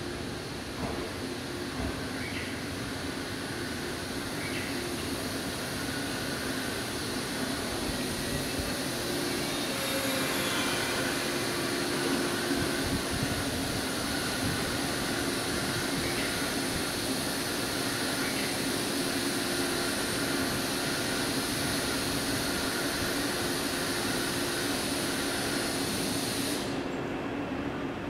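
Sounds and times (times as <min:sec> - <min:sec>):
electric train pulling to a stop: 0:00.0 - 0:27.2
train wheels on rails: 0:00.0 - 0:28.0.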